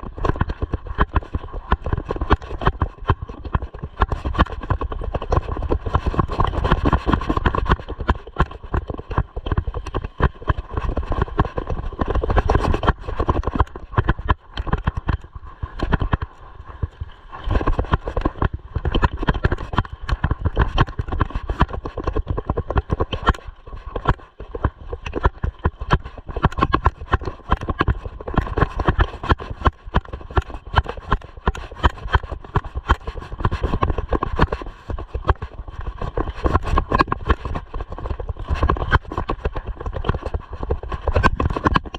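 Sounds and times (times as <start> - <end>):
bike rattling on rough trail: 0.0 - 41.9.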